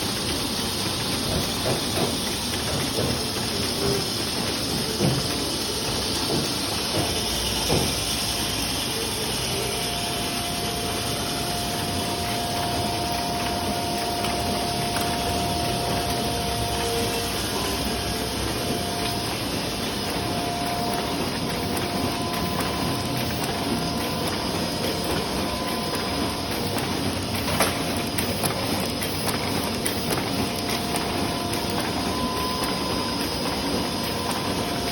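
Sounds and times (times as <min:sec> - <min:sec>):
printing press mechanical din: 0:00.0 - 0:34.9.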